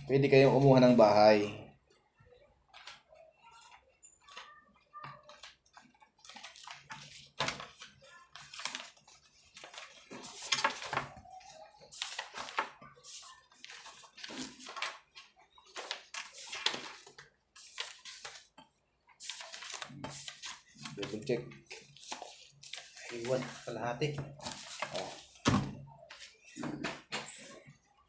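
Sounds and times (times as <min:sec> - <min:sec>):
paper pages rustling: 0:02.7 - 0:27.9.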